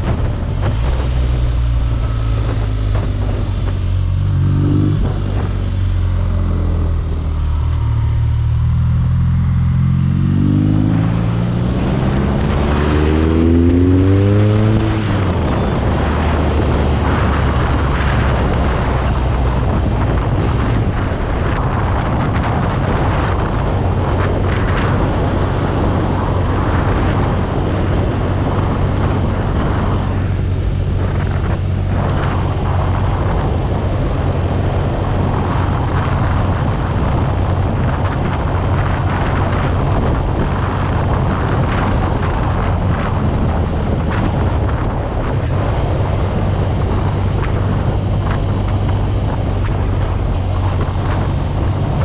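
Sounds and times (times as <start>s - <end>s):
motorcycle engine cruising: 0.0s - 52.0s
wind rush on microphone: 0.0s - 52.0s.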